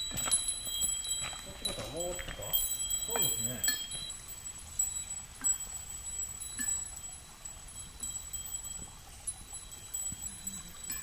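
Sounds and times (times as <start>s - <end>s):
ringing chime tones: 0.0s - 11.0s.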